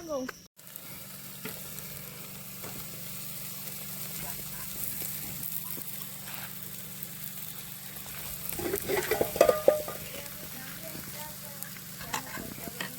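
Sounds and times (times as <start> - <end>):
campfire crackling and hissing: 0.0 - 12.9
fire pops and squeaky whistles: 0.0 - 12.9.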